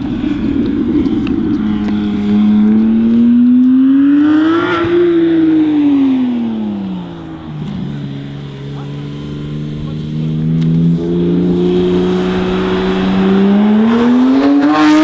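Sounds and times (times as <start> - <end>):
sports car accelerating past: 0.0 - 15.0.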